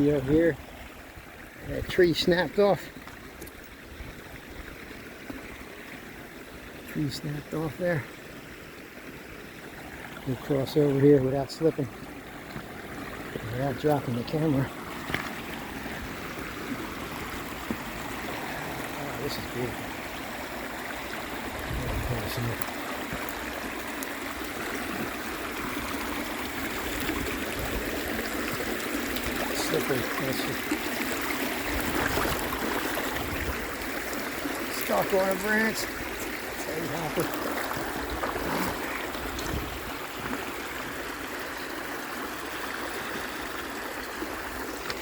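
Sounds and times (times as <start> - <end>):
stream rushing over rocks: 0.0 - 45.0.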